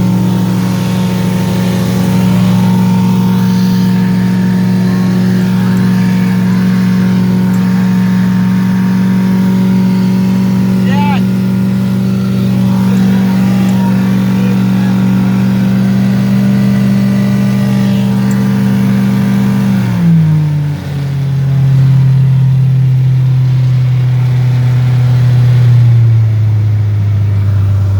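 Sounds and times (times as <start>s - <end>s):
outboard motor running: 0.0s - 27.9s.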